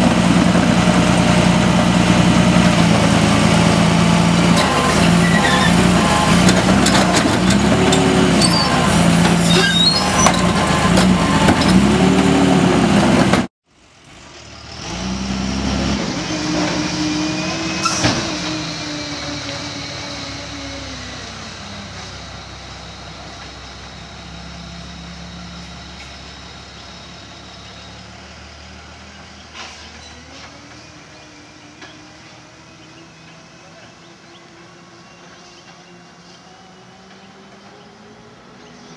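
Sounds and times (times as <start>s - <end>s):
garbage truck engine revving: 0.0s - 13.5s, 14.4s - 33.4s.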